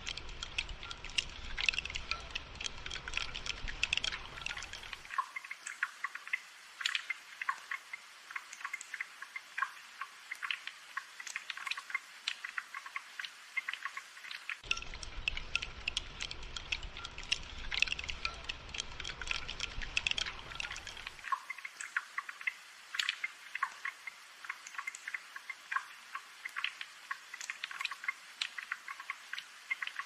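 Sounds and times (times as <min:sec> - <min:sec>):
light rain pattering: 0:00.0 - 0:30.0.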